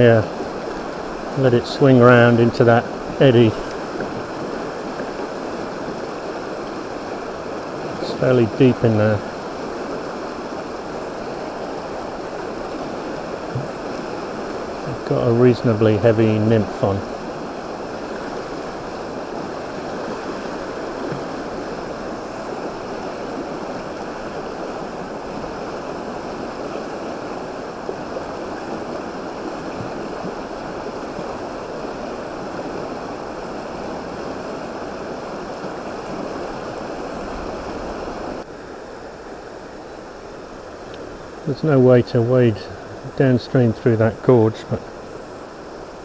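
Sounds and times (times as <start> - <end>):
river water rushing over rocks: 0.0 - 43.1, 43.8 - 46.0.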